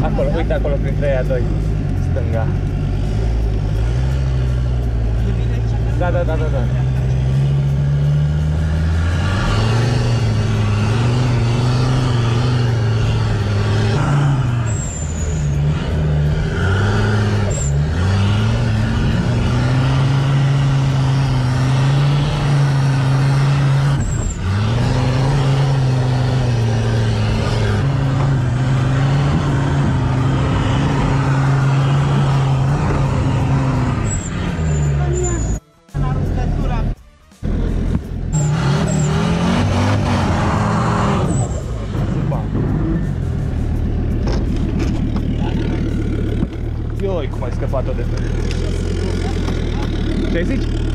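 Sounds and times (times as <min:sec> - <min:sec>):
off-road vehicle engine under load: 0:00.0 - 0:50.9.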